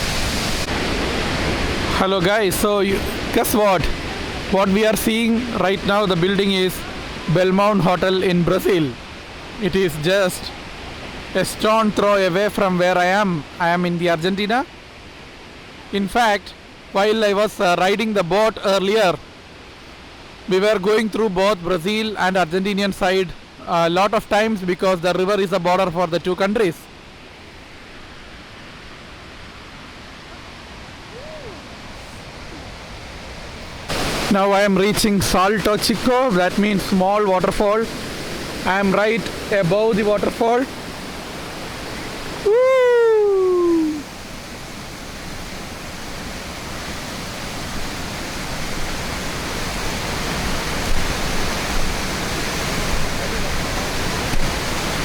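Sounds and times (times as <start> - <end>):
waterfall and river rushing: 0.0 - 55.0.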